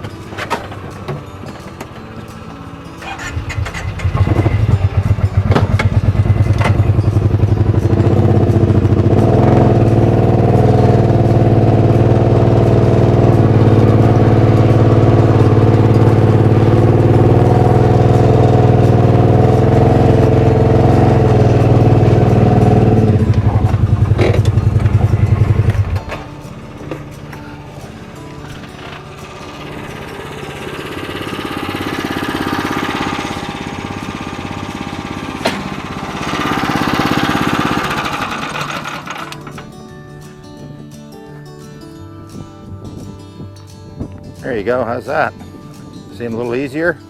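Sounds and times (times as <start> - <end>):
atv engine under load: 0.0 - 40.1.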